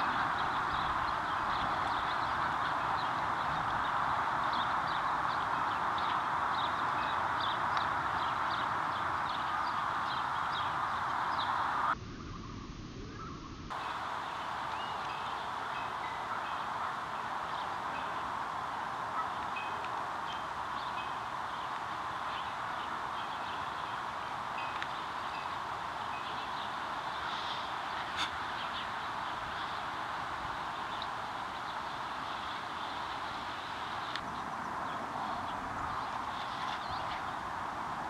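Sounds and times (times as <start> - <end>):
rushing wind or surf: 0.0 - 12.0, 13.7 - 38.0
small birds chirping: 0.0 - 37.5.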